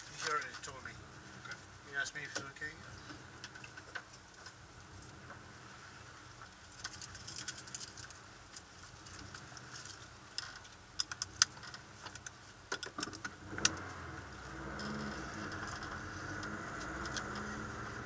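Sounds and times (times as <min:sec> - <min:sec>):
sharp clicks and rattles in car: 0:00.0 - 0:05.4, 0:06.3 - 0:18.0.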